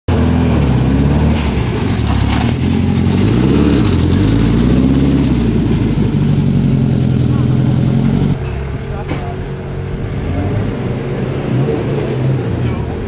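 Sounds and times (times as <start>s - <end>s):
car engine at low revs: 0.1s - 13.0s.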